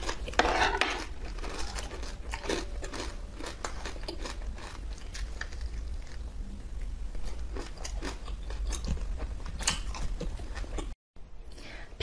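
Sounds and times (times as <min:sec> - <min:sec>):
candy crunching: 0:00.0 - 0:10.8.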